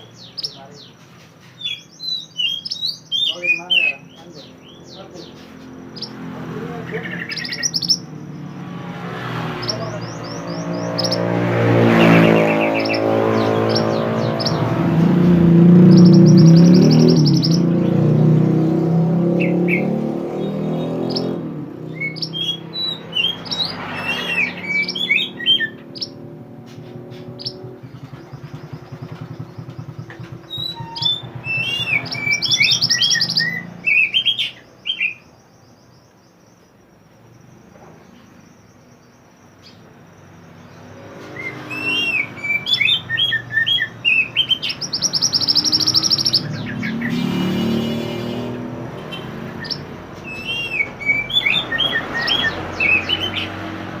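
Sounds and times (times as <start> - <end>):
songbird chirping and trilling: 0.0 - 54.0.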